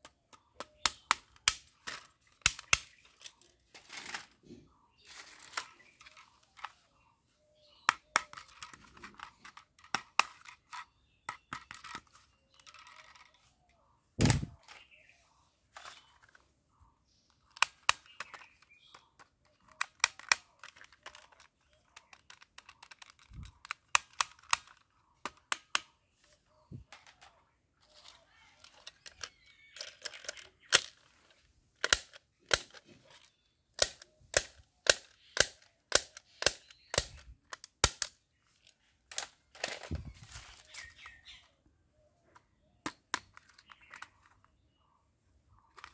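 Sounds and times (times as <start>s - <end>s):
plastic clicks and rattles: 0.0s - 4.4s, 5.1s - 6.9s, 7.9s - 14.9s, 17.2s - 26.0s, 26.7s - 40.2s, 42.2s - 44.6s, 45.6s - 45.9s.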